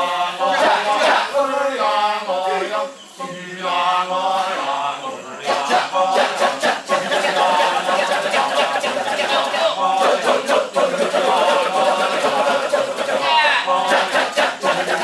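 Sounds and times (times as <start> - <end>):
men's chorus chanting: 0.0 - 15.0
rapid percussive chant: 0.0 - 15.0.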